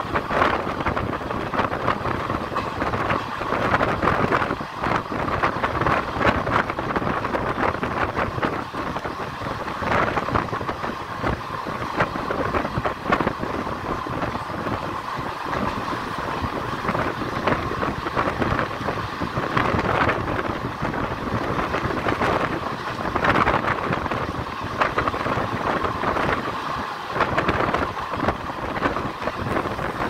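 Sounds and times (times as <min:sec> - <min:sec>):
train wheels rattling on rails: 0:00.0 - 0:30.0
wind buffeting the microphone: 0:00.0 - 0:30.0.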